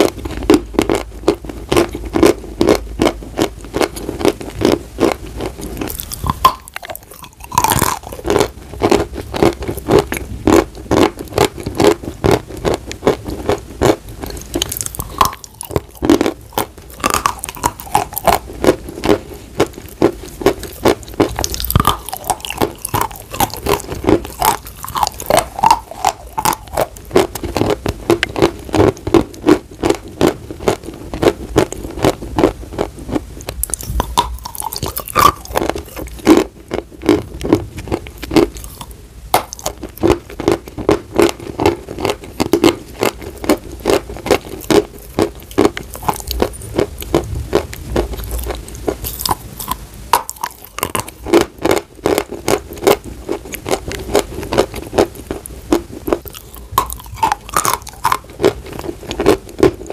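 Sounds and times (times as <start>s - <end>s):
chalk being chewed: 0.0s - 59.9s.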